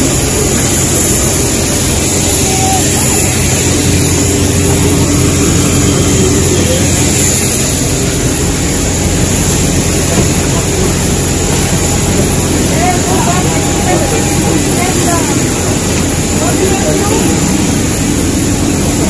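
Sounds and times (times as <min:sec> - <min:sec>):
bus engine drone with whine: 0:00.0 - 0:19.0
jet engine noise: 0:00.0 - 0:19.0.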